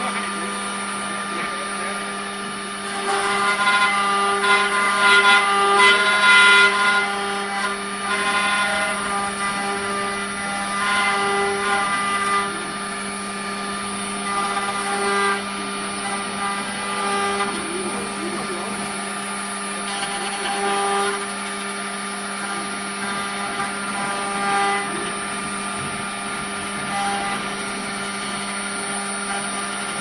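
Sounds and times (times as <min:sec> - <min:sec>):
wood router humming and whining: 0:00.0 - 0:30.0.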